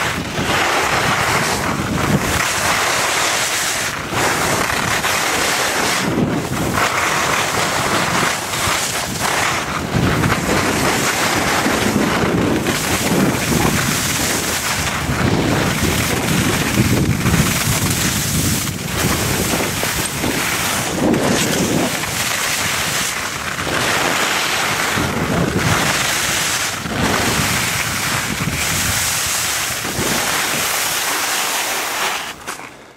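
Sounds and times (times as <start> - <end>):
wind buffeting microphone: 0.0 - 31.3
skis scraping on packed snow: 0.0 - 32.9.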